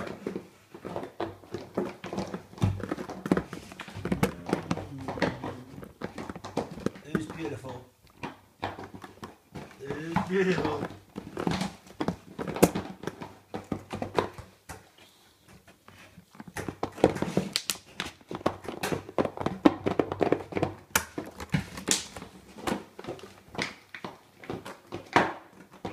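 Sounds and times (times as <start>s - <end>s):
dogs chewing plastic bottles: 0.0s - 25.9s.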